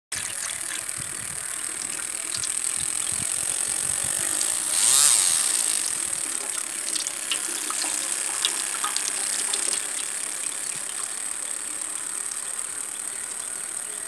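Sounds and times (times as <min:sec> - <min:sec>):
water pump whining and rattling: 0:00.1 - 0:14.0.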